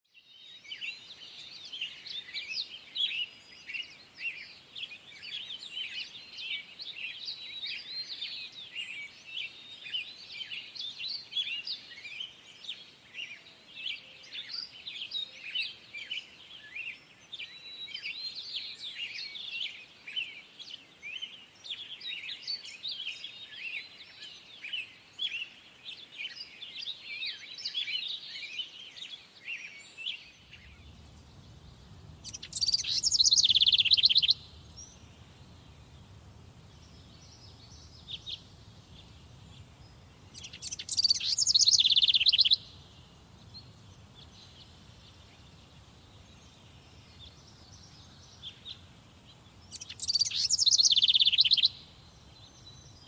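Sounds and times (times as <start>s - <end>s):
songbirds chirping and trilling: 0.1s - 53.0s.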